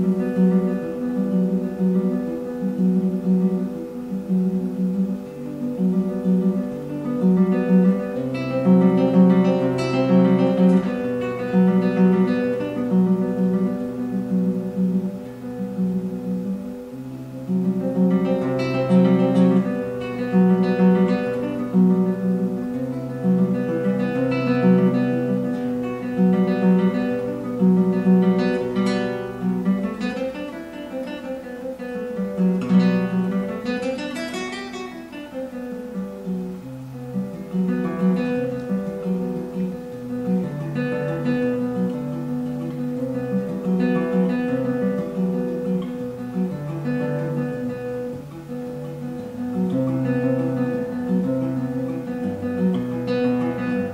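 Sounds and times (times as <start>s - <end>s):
solo classical guitar: 0.0s - 53.9s.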